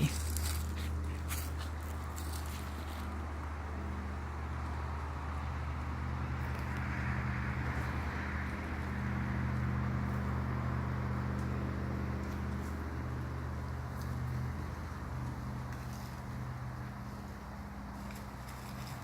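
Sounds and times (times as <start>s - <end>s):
road noise hiss: 0.0s - 19.0s
vehicle engine humming: 0.0s - 19.0s.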